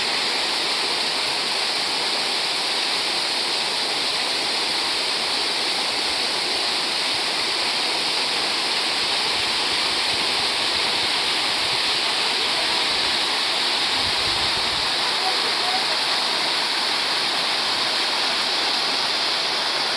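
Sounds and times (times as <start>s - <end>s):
stream flowing: 0.0s - 19.9s.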